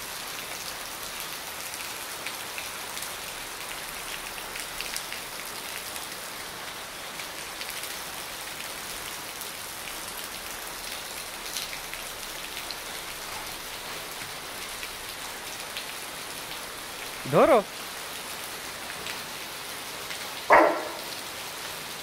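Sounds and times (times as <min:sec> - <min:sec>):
rain on stone paving: 0:00.0 - 0:22.0.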